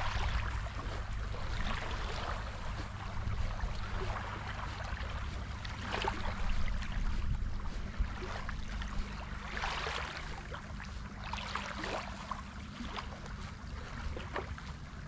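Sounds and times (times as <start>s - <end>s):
low wind rumble on microphone: 0.0s - 15.0s
small waves lapping: 0.0s - 15.0s.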